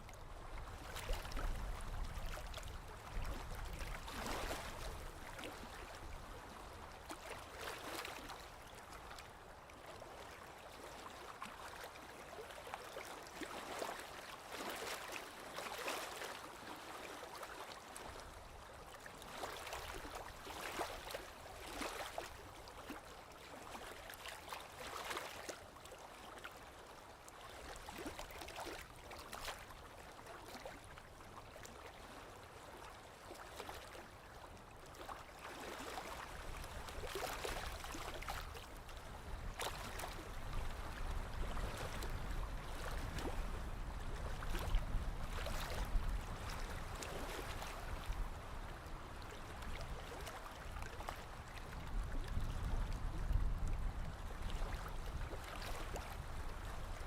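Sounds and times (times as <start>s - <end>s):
lake waves lapping on shore: 0.0s - 57.0s.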